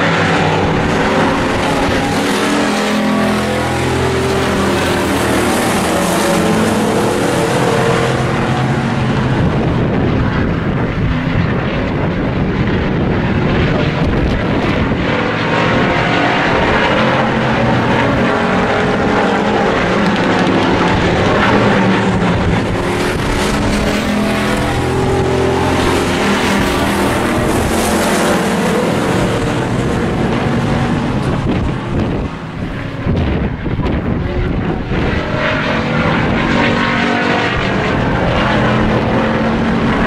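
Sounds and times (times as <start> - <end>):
racing truck engines: 0.0 - 40.0.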